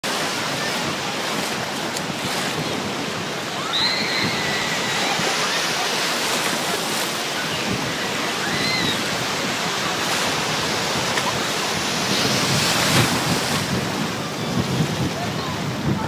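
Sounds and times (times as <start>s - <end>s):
surf breaking in strong wind: 0.0s - 16.0s.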